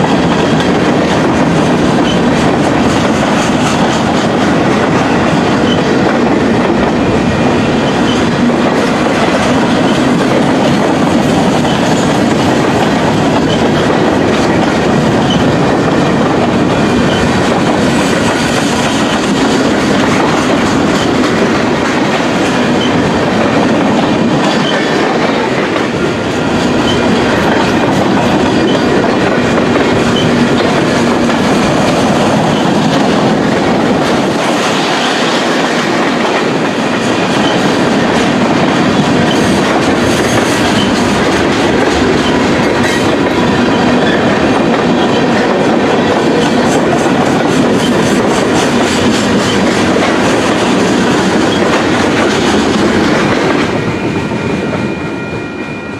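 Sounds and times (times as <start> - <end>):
freight train wheels clickety-clack: 0.0 - 55.9.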